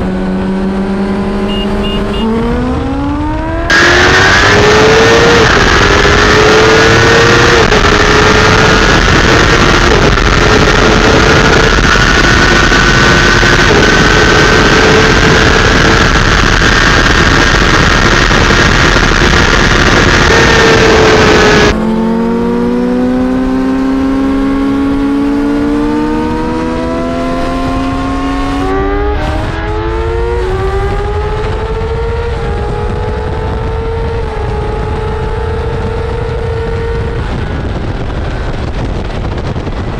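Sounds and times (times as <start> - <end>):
heavy wind noise: 0.0 - 39.9
motorcycle engine at highway speed: 0.0 - 39.9.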